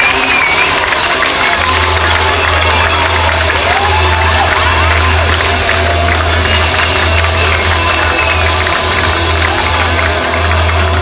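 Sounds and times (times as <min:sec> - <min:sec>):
crowd cheering: 0:00.0 - 0:11.0.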